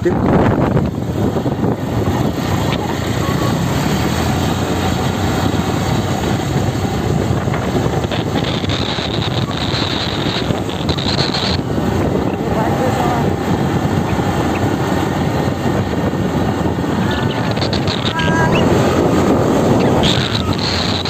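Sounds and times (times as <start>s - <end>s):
high steady whine: 0.0s - 21.0s
motorbike engine drone: 0.0s - 21.0s
road noise: 0.0s - 21.0s
wind buffeting microphone: 0.0s - 21.0s.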